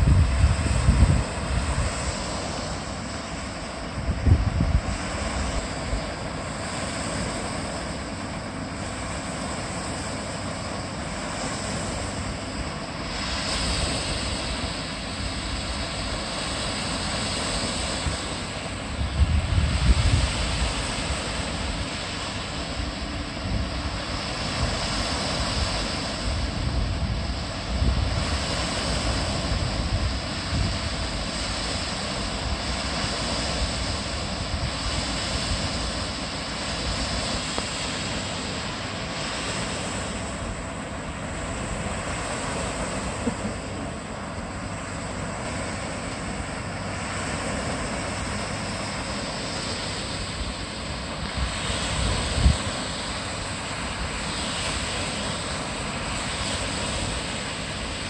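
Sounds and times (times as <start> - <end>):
water rushing over a weir: 0.0 - 58.0.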